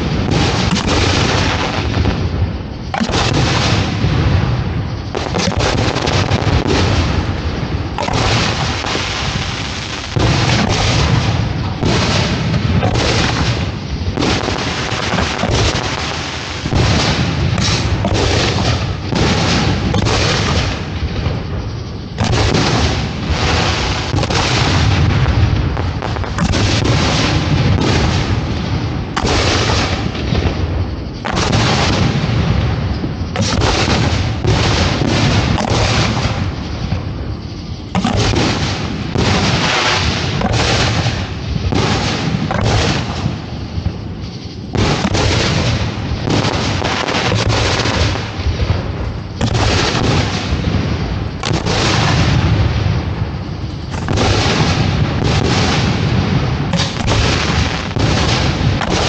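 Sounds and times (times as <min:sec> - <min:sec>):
fireworks booming and cracking: 0:00.0 - 0:59.0.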